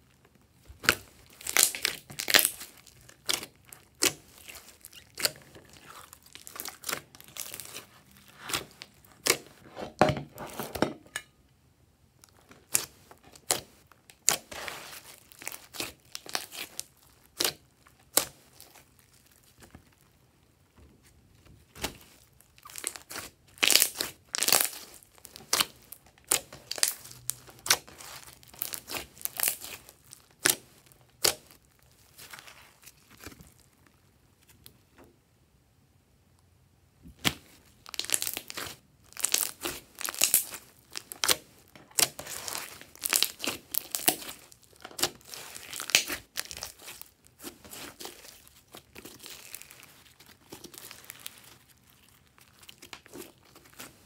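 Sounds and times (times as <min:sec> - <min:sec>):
slime squishing with wet clicks: 0:00.0 - 0:09.5, 0:12.2 - 0:20.7, 0:21.7 - 0:34.9, 0:37.1 - 0:54.0.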